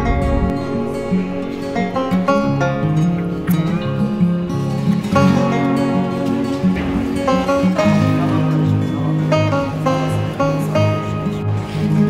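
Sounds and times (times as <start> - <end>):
acoustic guitar picking a melody: 0.0 - 12.0.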